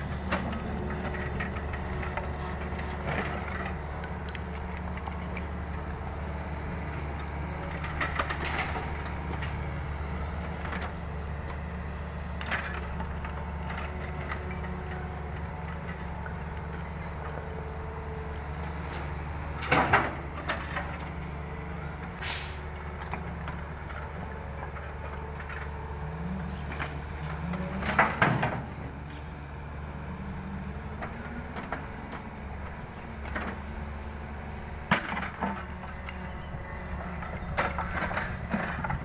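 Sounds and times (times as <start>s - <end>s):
mini excavator running: 0.0s - 39.0s.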